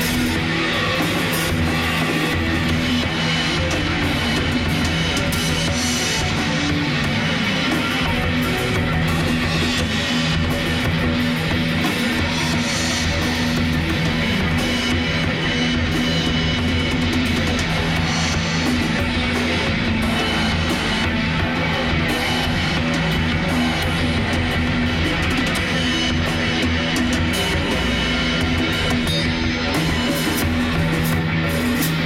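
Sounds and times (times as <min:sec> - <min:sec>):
drum kit with cymbals: 0:00.0 - 0:32.0
heavy metal electric guitar: 0:00.0 - 0:32.0.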